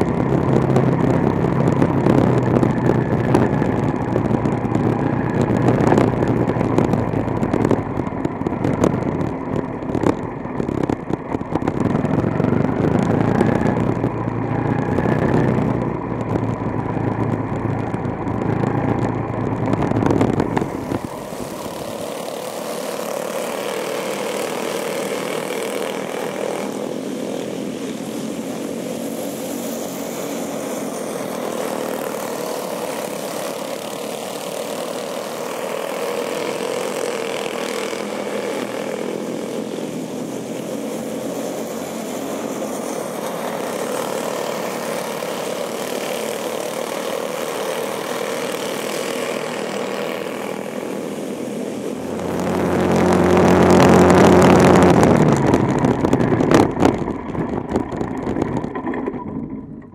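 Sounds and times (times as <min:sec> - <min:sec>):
distant race car engines droning: 0:00.0 - 0:59.9
race car engine passing close: 0:11.7 - 0:59.9.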